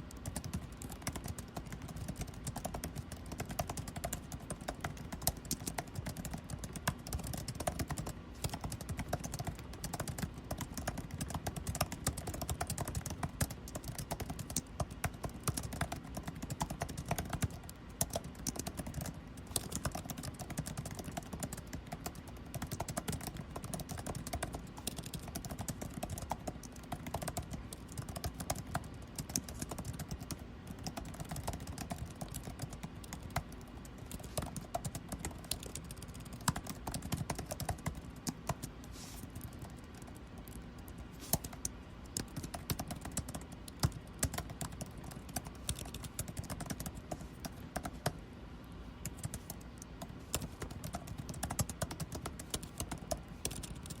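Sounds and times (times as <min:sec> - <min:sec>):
computer keyboard typing: 0:00.0 - 0:48.2, 0:49.0 - 0:54.0
air conditioning hum: 0:00.0 - 0:54.0.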